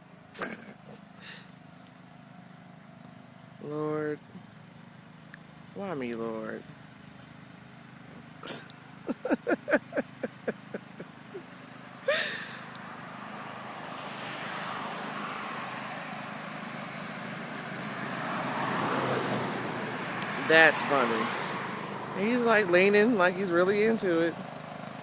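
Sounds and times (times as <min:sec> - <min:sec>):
riding lawnmower engine: 0:00.0 - 0:25.0.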